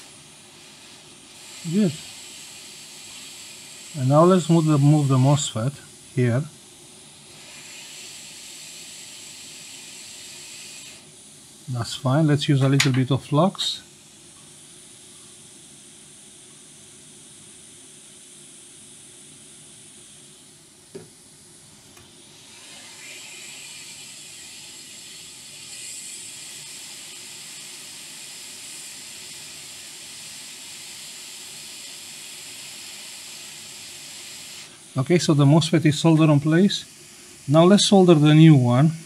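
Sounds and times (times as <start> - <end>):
hot air station hissing: 0.0 - 39.0.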